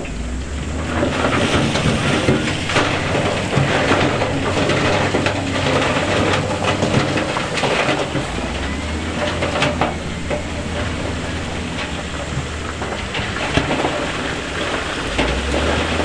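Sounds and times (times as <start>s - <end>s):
diesel engine hum: 0.0s - 16.0s
stones crunching and tumbling: 0.0s - 16.0s.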